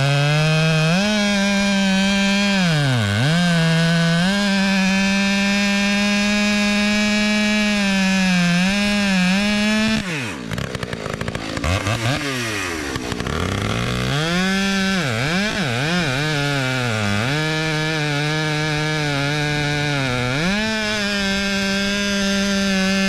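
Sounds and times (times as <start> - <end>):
chainsaw running at high revs: 0.0 - 23.0.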